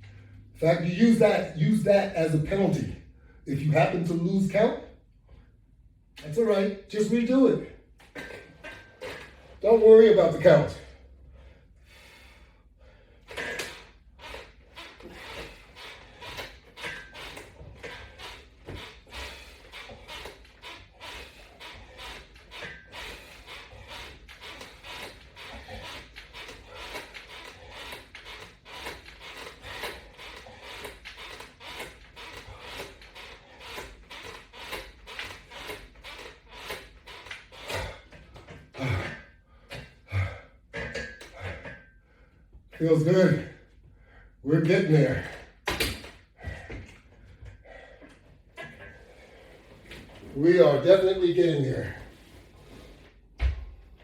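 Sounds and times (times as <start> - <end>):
exercise straps clicking and creaking: 6.2 - 11.0, 13.0 - 43.8, 44.7 - 54.0.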